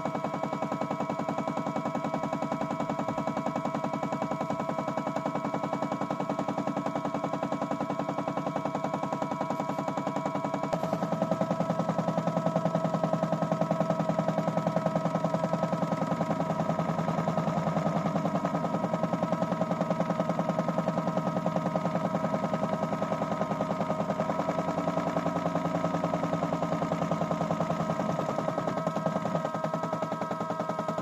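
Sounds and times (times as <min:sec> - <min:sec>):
toy washing machine motor humming: 0:00.0 - 0:31.0.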